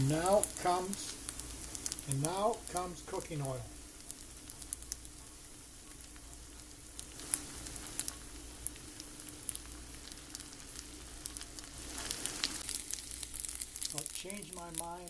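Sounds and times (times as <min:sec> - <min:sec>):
oil sizzling in a skillet: 0:00.0 - 0:15.0
sharp pops and crackles: 0:00.2 - 0:03.2, 0:03.9 - 0:15.0.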